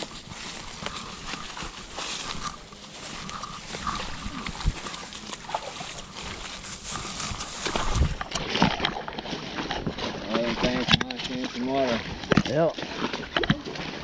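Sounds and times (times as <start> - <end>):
footsteps through dry leaves: 0.0 - 14.0
twigs crackling underfoot: 0.0 - 14.0.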